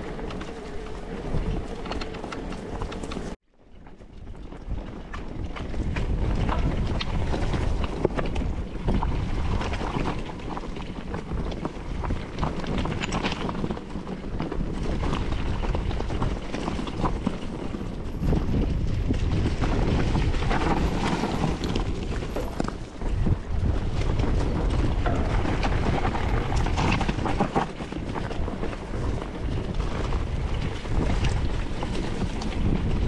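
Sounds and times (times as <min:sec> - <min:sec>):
wind buffeting microphone: 0:00.0 - 0:33.0
bike knocks and rattles: 0:04.4 - 0:33.0.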